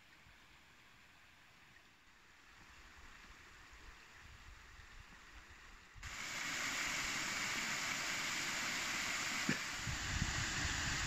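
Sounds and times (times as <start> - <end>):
river water rushing over shallows: 0.0 - 11.0.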